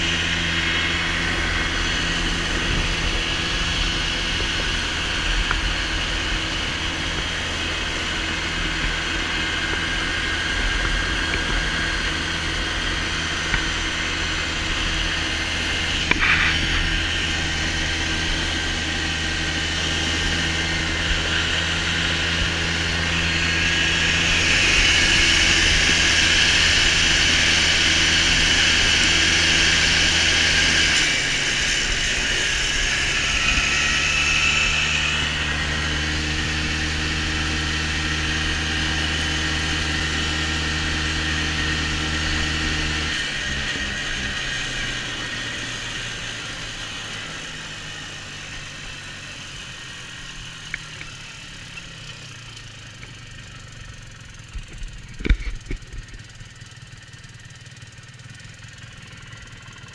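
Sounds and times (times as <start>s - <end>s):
constant rushing noise: 0.0s - 59.9s
vehicle engine running: 0.0s - 59.9s.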